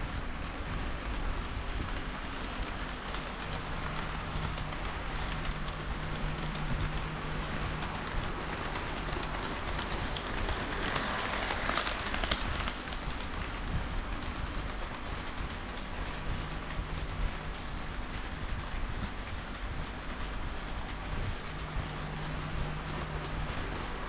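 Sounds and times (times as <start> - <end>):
model train wheels rattling on rail: 0.0 - 24.0.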